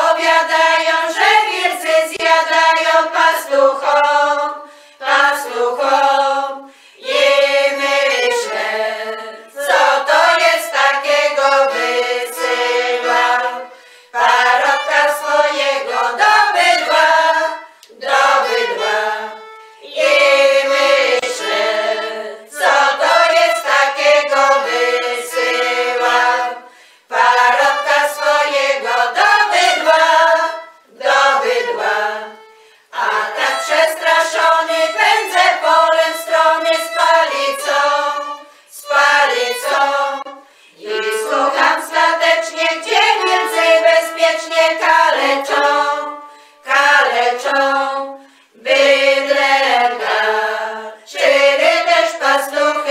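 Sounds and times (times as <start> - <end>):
women singing folk carol together: 0.0 - 52.9.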